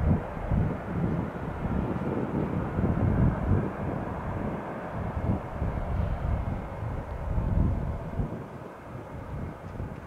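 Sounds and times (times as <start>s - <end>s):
jet airliner engines rumbling: 0.0s - 10.0s.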